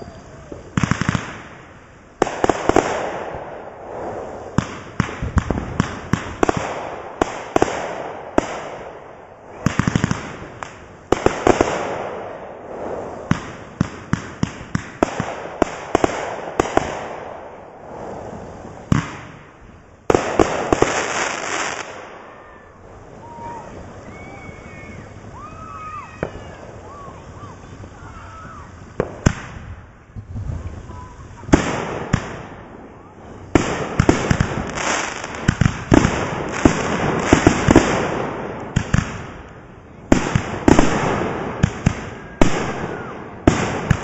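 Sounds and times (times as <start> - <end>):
firework shots reports: 0.0 - 44.0
rushing hiss of firework bursts: 0.0 - 44.0.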